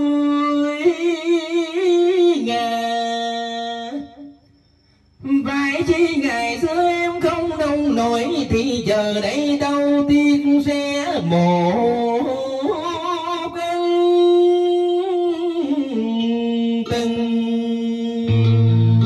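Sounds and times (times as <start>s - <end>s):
man singing into a microphone: 0.0s - 4.4s, 5.2s - 19.0s.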